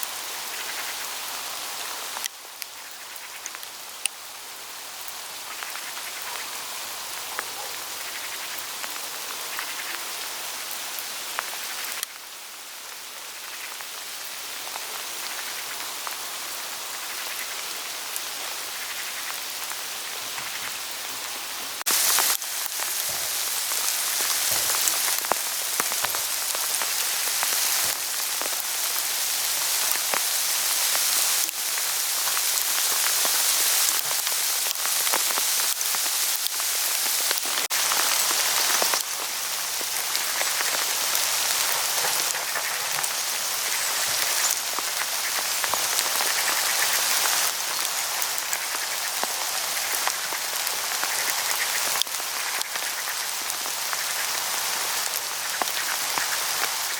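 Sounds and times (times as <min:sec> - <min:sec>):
hail pattering on leaves: 0:00.0 - 0:21.0, 0:21.8 - 0:56.9.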